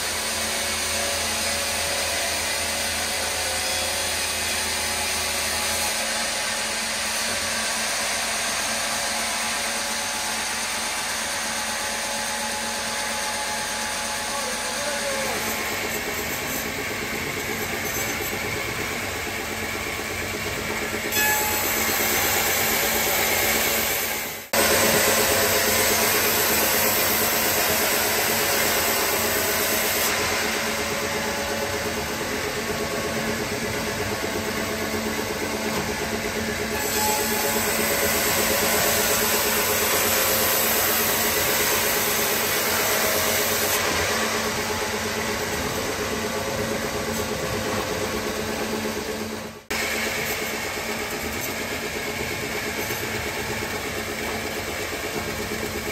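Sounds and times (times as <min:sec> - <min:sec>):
saw blade cutting log: 0:00.2 - 0:19.6, 0:21.0 - 0:32.7, 0:33.8 - 0:48.3.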